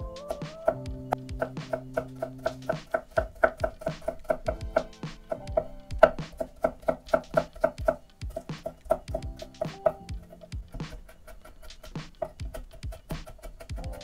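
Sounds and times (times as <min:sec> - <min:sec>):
music with plucked beat: 0:00.0 - 0:14.0.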